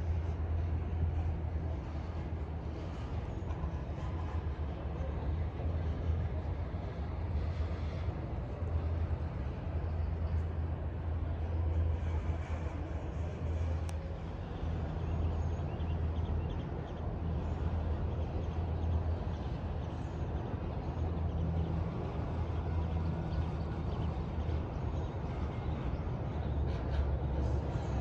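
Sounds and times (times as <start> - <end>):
gondola system humming and rushing: 0.0 - 28.0.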